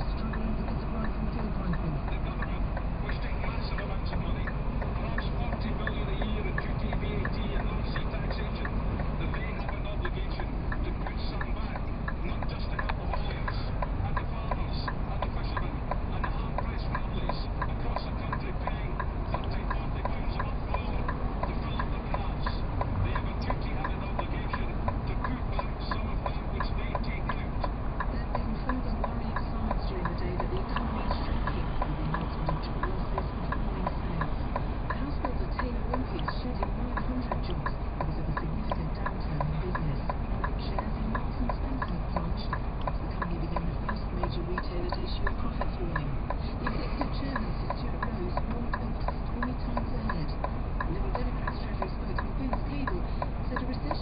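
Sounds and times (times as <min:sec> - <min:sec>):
diesel engine idling: 0:00.0 - 0:54.0
turn signal ticking: 0:00.0 - 0:54.0.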